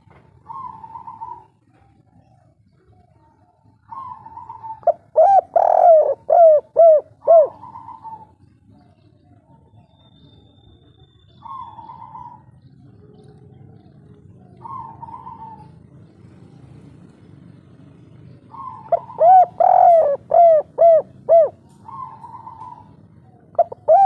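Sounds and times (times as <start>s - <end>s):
doves cooing: 0.0s - 24.0s.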